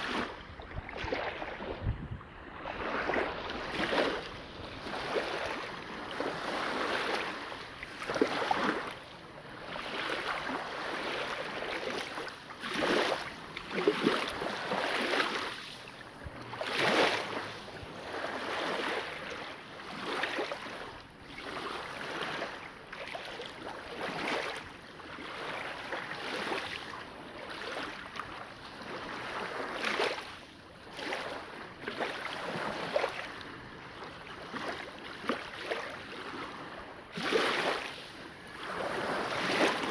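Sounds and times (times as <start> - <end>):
small waves lapping on gravel shore: 0.0 - 39.9.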